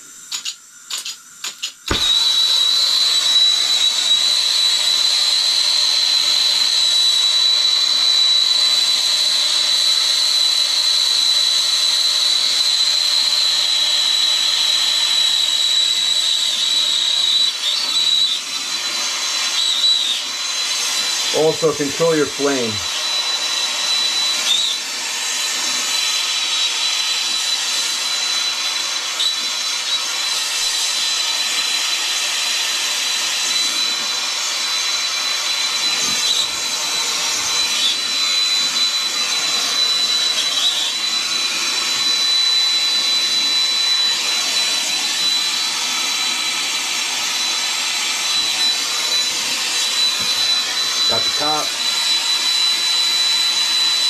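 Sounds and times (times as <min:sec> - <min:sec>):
torch flame hissing and whistling: 0:00.0 - 0:54.0.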